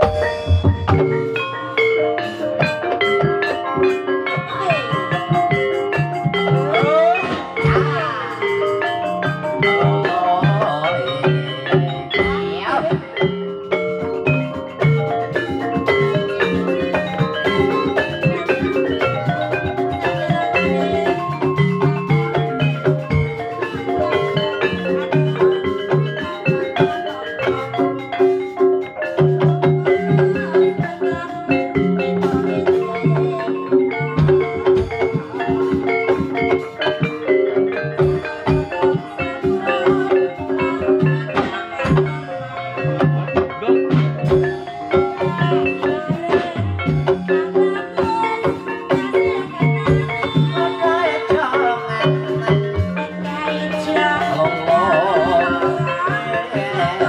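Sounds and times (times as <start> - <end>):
tuned mallet percussion music: 0.0 - 57.0.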